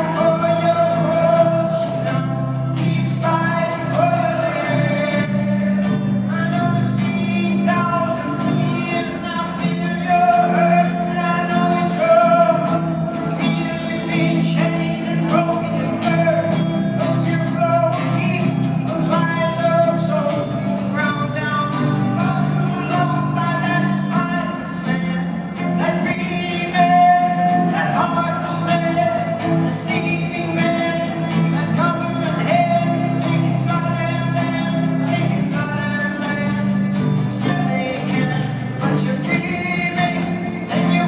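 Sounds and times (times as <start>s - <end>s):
person singing: 0.0s - 41.0s.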